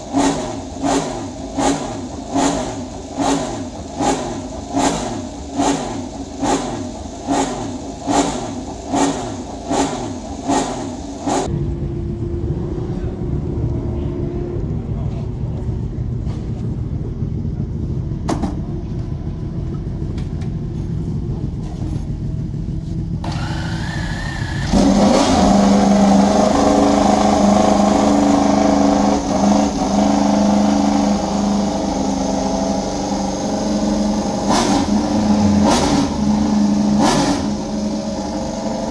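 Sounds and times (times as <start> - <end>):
racing motorcycle engines revving: 0.0 - 17.6, 21.4 - 38.9.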